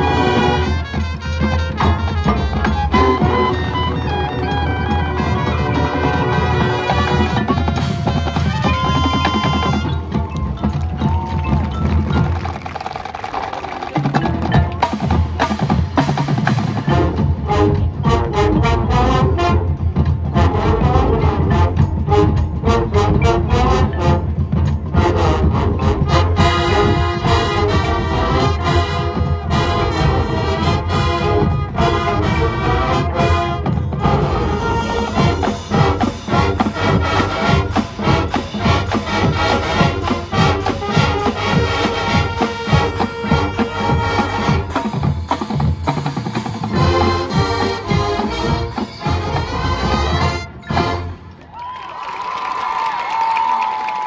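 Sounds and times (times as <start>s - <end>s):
brass section chords: 0.0s - 10.2s, 16.8s - 45.4s, 46.6s - 51.4s
drumline and percussion: 0.0s - 54.0s.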